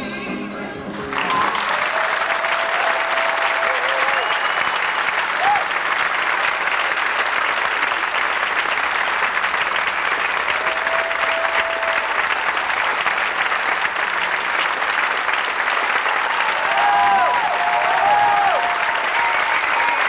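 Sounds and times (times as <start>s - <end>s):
call from crowd: 0.0s - 7.2s, 10.2s - 20.0s
audience applauding: 0.9s - 20.0s.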